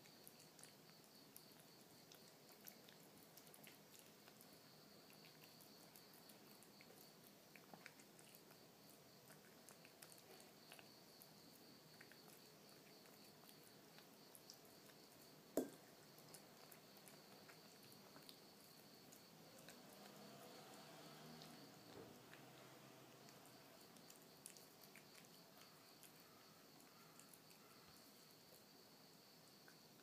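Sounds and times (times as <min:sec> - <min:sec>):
kitten chewing wetly: 0:00.0 - 0:30.0.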